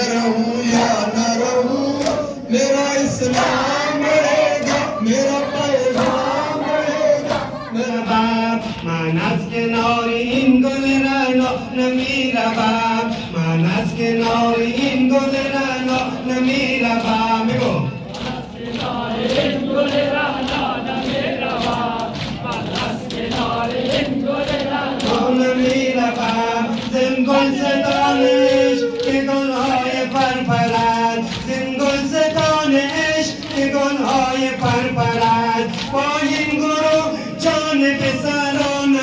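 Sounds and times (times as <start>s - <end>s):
lead reciter voice: 0.0s - 39.0s
men chanting a lament: 0.0s - 39.0s.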